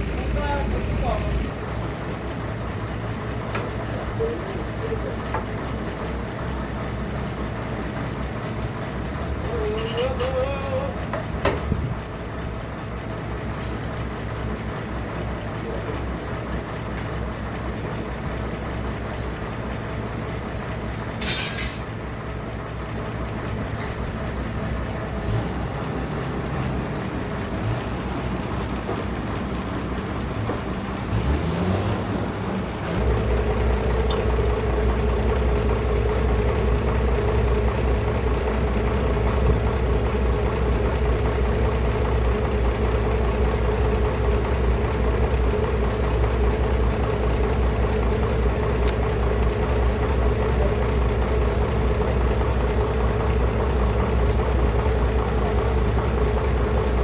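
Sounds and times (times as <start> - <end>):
engine running: 0.0 - 57.0
sawmill machinery running: 0.0 - 57.0.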